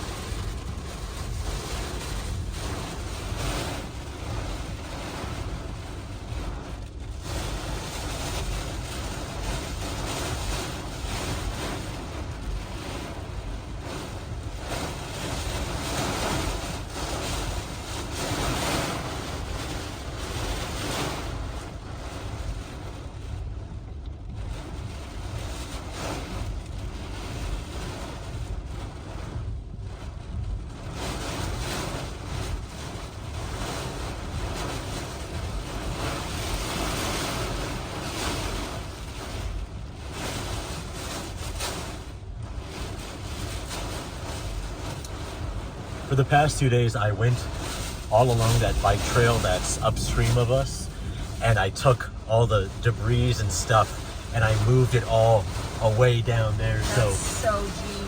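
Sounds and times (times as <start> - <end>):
wind-driven rain: 0.0 - 58.0.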